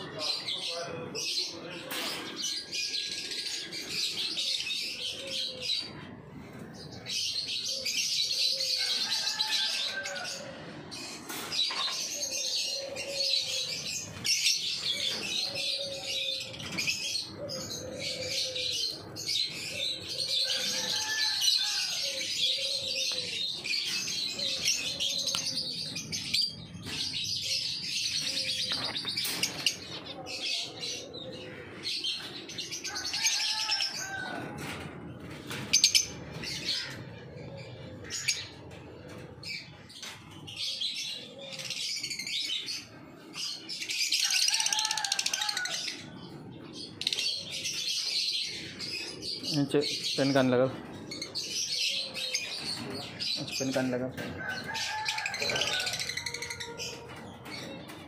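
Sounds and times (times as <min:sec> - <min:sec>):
birds chirping and chattering: 0:00.0 - 0:58.0.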